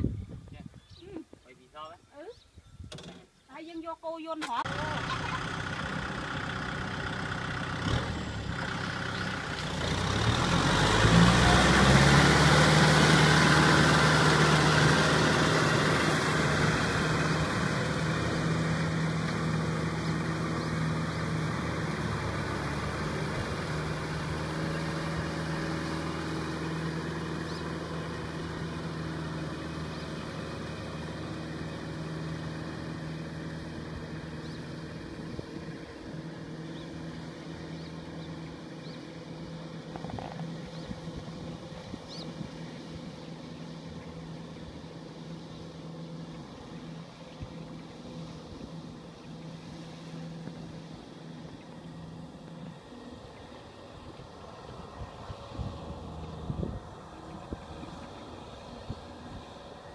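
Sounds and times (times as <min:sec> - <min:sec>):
tractor diesel engine: 0:04.4 - 0:59.9.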